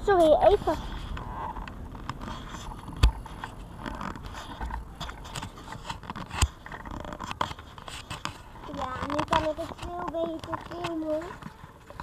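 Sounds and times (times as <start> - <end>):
camera handling rubbing: 0.8 - 12.0.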